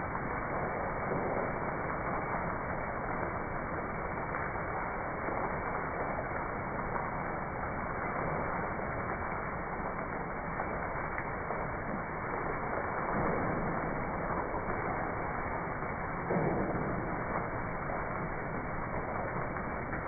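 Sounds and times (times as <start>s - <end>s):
rain on wet concrete: 0.0s - 20.0s.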